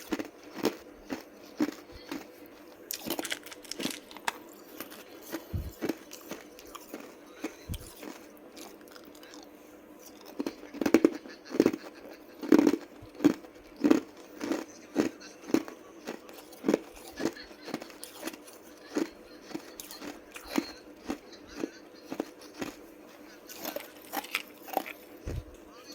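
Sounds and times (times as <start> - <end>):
ice being chewed: 0.0 - 25.6.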